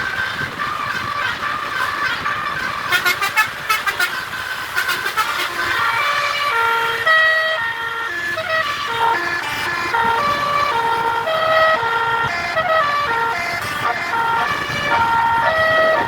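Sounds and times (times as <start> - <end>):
bus horn playing a tune: 0.5 - 16.0.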